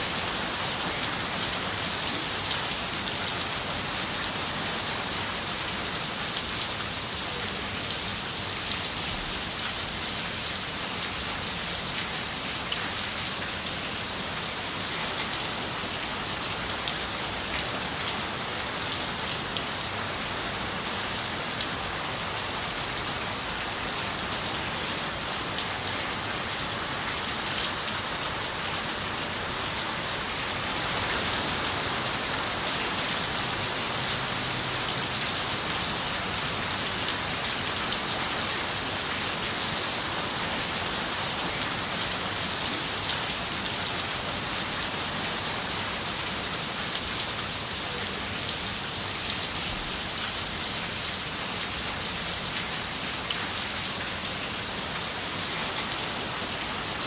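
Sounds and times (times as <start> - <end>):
rain on a window: 0.4 - 57.0.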